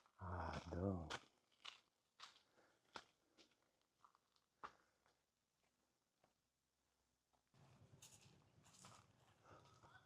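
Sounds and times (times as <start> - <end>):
faint footsteps walking: 0.0 - 6.4, 7.3 - 10.0.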